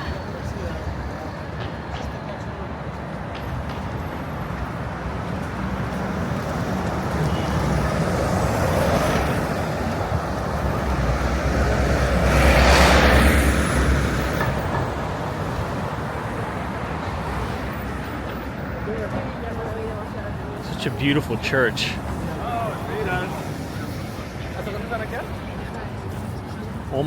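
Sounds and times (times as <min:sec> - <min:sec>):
heavy vehicle engine rumble: 0:00.0 - 0:27.0
traffic passing: 0:00.0 - 0:27.0.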